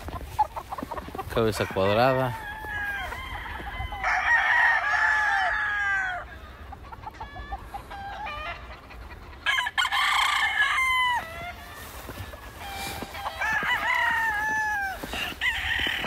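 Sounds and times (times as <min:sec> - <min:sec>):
chicken clucks: 0:00.0 - 0:04.0, 0:06.3 - 0:16.0
roosters crowing: 0:00.0 - 0:16.0.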